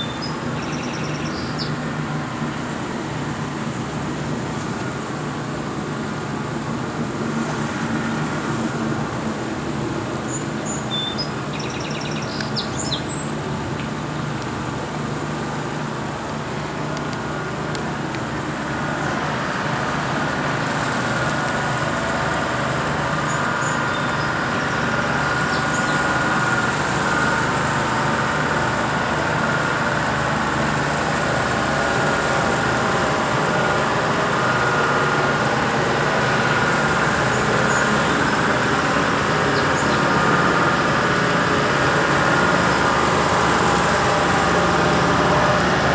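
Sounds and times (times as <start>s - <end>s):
heavy truck engine running: 0.0s - 45.9s.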